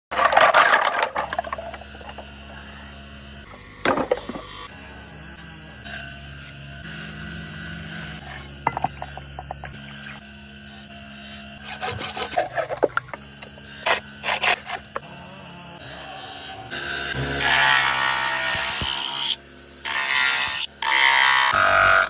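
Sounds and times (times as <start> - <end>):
tool rasping and scraping horn: 0.2 - 22.0.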